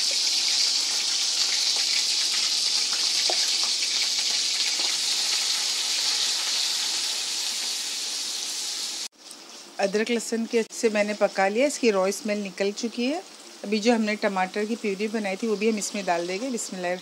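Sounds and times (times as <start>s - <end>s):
paste and spices sizzling in oil: 0.0s - 17.0s.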